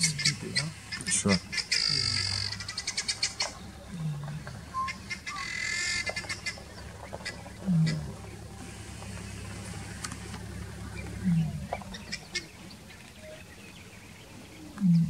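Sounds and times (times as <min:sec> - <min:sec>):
birds chattering: 0:00.0 - 0:15.0.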